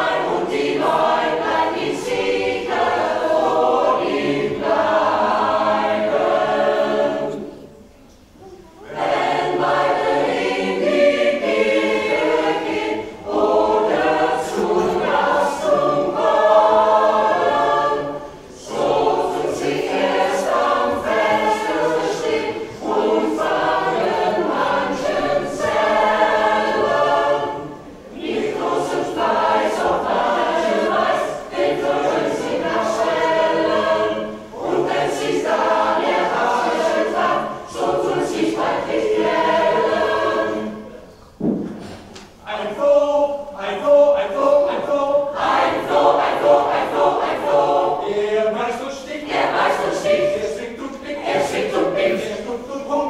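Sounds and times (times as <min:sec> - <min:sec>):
mixed choir singing: 0:00.0 - 0:07.9, 0:08.8 - 0:53.0.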